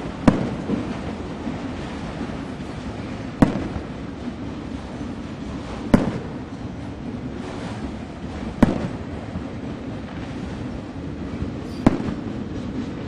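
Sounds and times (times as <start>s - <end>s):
firework bang echoing: 0.0s - 10.8s, 11.4s - 13.0s
background rumble: 0.0s - 13.0s.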